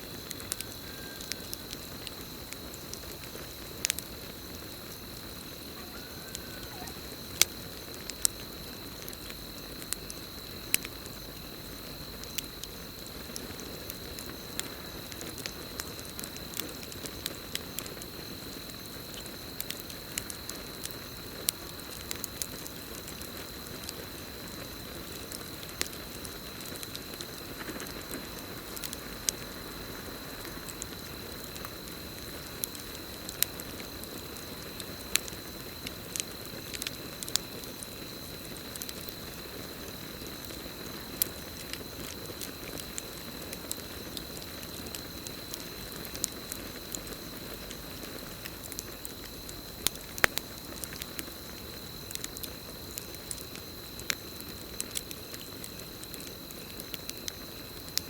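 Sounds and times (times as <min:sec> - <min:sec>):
campfire crackling and popping: 0:00.0 - 0:58.0
crickets trilling: 0:00.0 - 0:58.0.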